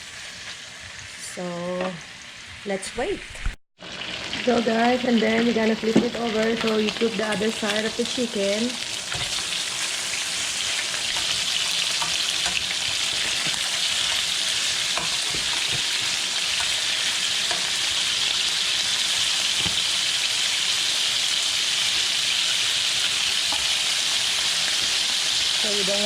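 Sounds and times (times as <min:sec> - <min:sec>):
chicken frying in oil: 0:00.0 - 0:26.0.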